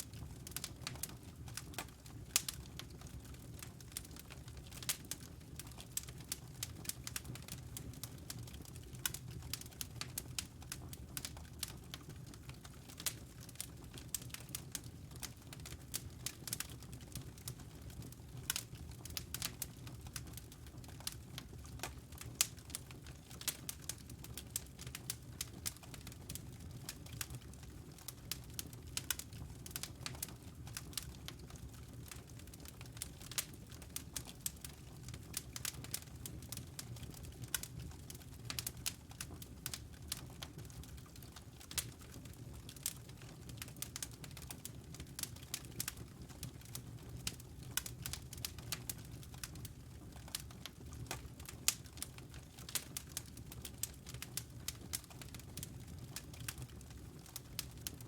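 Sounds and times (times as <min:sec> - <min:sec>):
low rumble of flame: 0:00.0 - 0:58.0
logs crackling and popping: 0:00.1 - 0:58.0.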